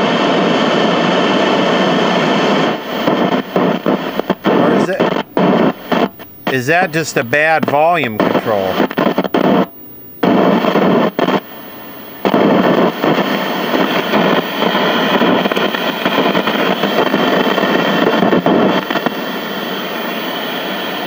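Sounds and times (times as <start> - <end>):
loud crackling static from tv speaker: 0.0 - 21.0.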